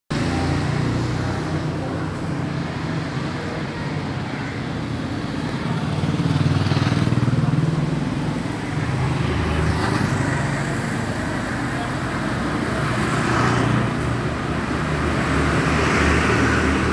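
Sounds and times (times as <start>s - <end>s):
street traffic: 0.1s - 16.9s.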